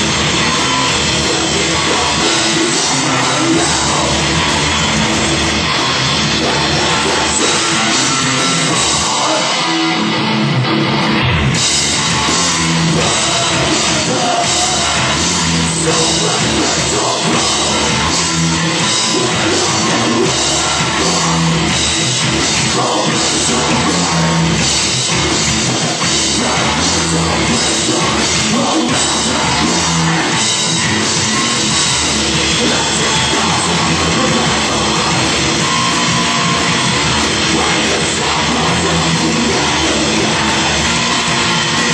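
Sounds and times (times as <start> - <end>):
drum kit beat: 0.0 - 41.9
live rock band playing: 0.0 - 41.9.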